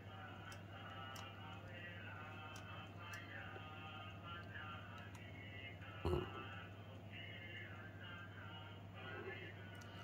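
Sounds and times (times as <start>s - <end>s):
faint background music: 0.0s - 10.0s
low steady hum: 0.0s - 10.0s.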